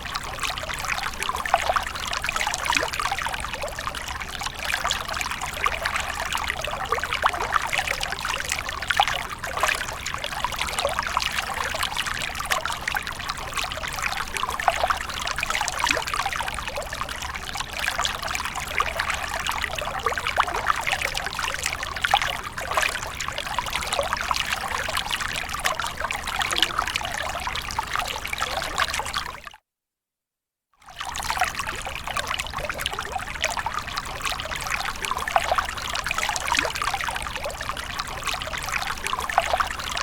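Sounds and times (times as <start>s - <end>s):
stream trickling and babbling: 0.0s - 29.5s, 30.8s - 40.0s.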